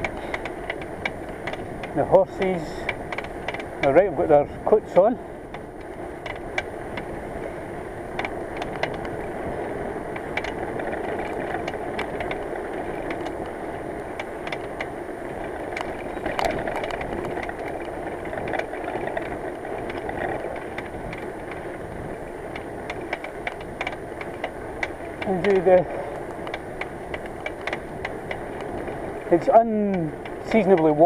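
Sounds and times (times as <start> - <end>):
bicycle hub clicking and rattling: 0.0 - 31.0
rush of tyres and wind: 0.0 - 31.0.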